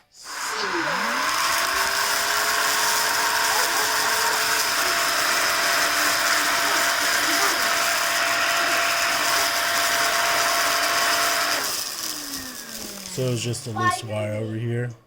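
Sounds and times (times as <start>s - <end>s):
stick vacuum running: 0.0s - 14.4s.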